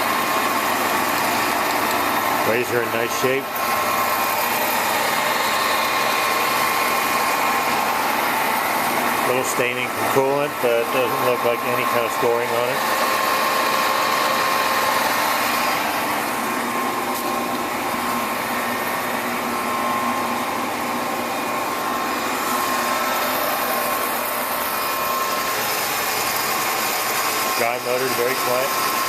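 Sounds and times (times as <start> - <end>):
lathe running: 0.0 - 29.0.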